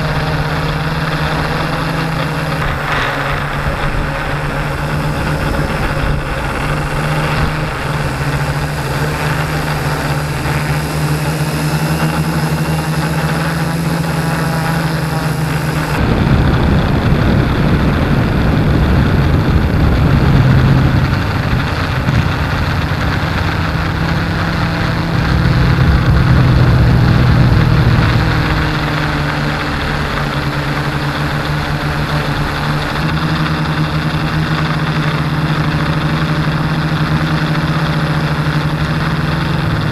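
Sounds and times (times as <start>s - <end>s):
drone motors humming: 0.0s - 39.9s
wind rushing over microphone: 0.0s - 39.9s.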